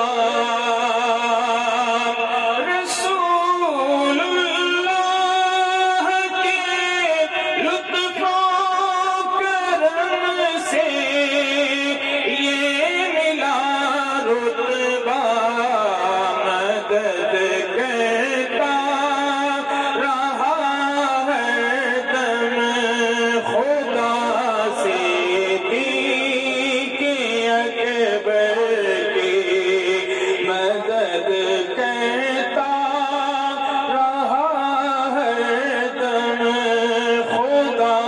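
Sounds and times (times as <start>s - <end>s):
man singing devotional song: 0.0s - 38.0s.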